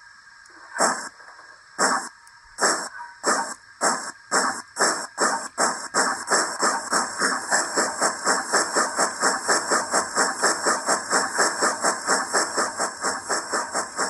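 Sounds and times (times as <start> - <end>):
model steam locomotive chuffs: 0.8 - 1.1, 1.8 - 14.0.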